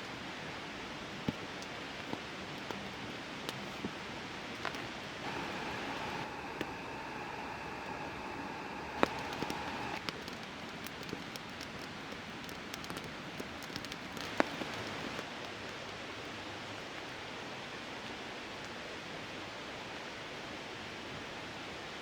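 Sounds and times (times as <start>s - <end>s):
rain falling on a tarp: 0.0s - 6.9s, 8.9s - 22.0s.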